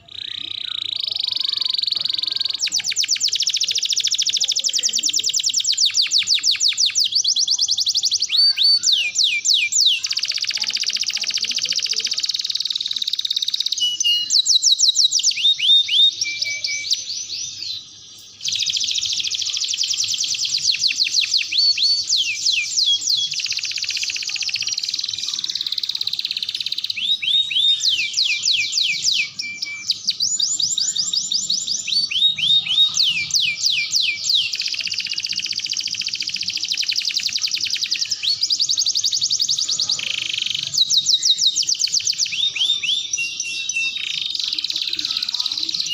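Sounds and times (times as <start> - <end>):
canary singing rapid trills: 0.0 - 45.9.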